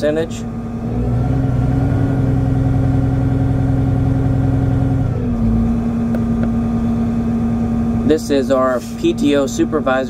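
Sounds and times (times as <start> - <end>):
deep hum: 0.0 - 10.0
tractor diesel engine running: 0.0 - 10.0.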